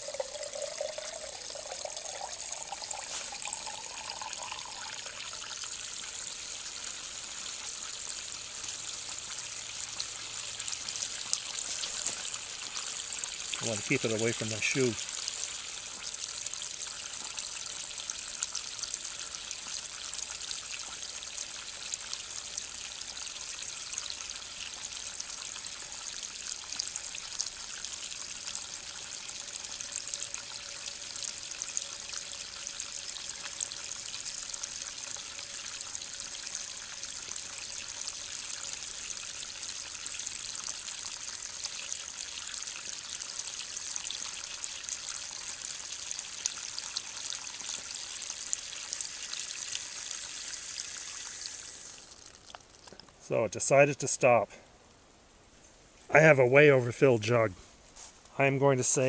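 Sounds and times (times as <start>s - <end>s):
toilet fill valve hissing: 0.0s - 52.6s
water trickling into a jug: 0.0s - 53.4s.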